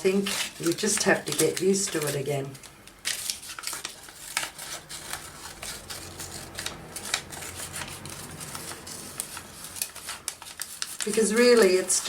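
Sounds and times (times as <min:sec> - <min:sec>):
paper rustling: 0:00.0 - 0:12.0
scissors cutting paper: 0:00.0 - 0:12.0.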